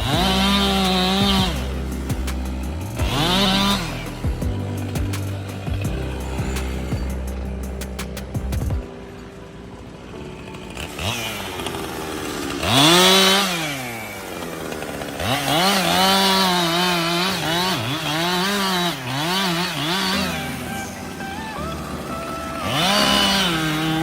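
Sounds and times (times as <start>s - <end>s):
chainsaw engine revving: 0.0s - 7.1s, 10.7s - 24.0s.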